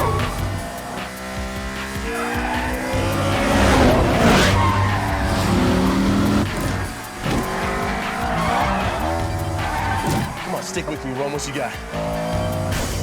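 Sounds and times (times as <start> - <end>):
car engines revving: 0.0 - 13.0
tire rush noise: 0.0 - 13.0.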